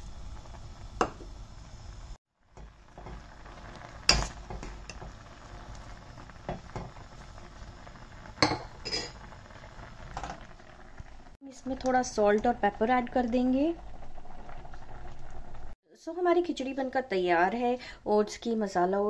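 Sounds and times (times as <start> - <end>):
pot boiling and bubbling: 0.0 - 15.8.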